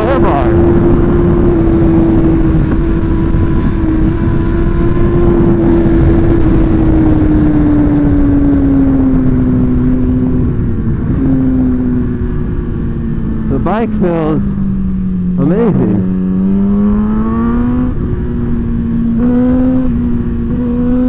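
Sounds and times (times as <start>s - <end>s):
motorcycle engine at high revs: 0.0s - 21.0s
wind rush: 0.0s - 21.0s.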